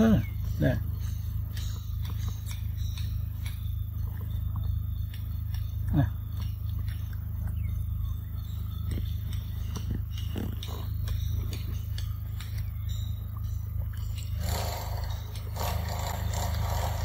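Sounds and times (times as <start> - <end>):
steady low hum: 0.0 - 17.0
wet clicks of chewing: 0.2 - 14.4.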